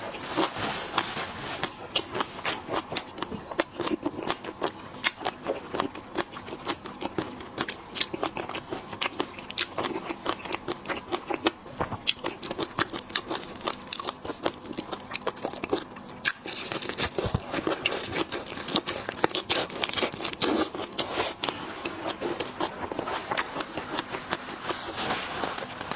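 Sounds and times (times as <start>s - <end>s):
crunching and chewing shellfish: 0.0s - 25.9s.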